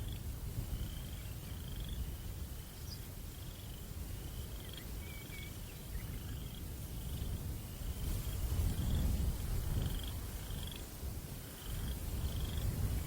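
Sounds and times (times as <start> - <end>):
cricket chirping: 0.0 - 9.1, 9.8 - 12.8
low rumble of breeze: 0.0 - 13.0.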